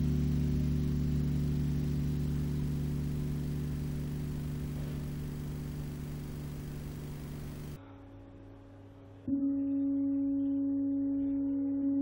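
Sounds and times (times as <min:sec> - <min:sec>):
ambient electronic drone: 0:00.0 - 0:07.8, 0:09.2 - 0:12.0.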